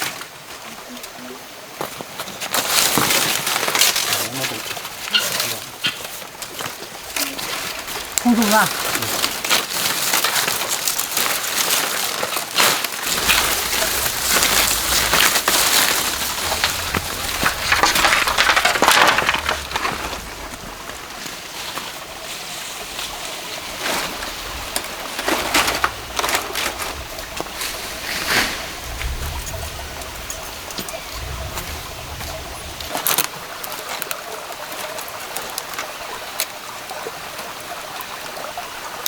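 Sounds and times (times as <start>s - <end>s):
crunching and rustling: 1.9s - 36.5s.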